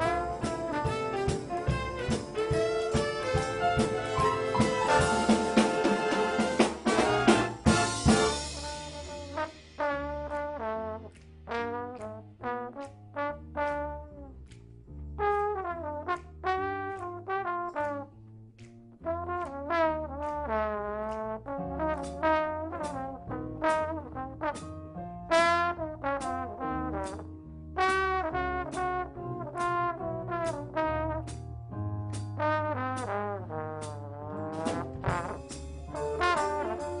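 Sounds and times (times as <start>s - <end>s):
brass ensemble playing: 0.0s - 14.2s, 19.1s - 24.7s, 25.3s - 31.4s, 32.4s - 37.0s.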